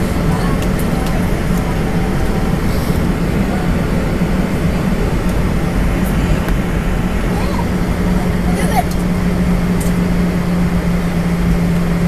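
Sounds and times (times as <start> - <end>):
aircraft cabin engine hum: 0.0 - 12.0.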